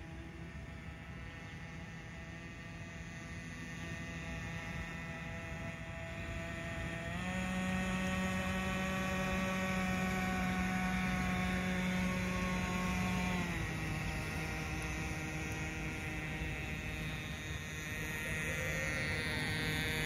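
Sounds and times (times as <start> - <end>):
model boat engine whine: 0.0 - 20.0.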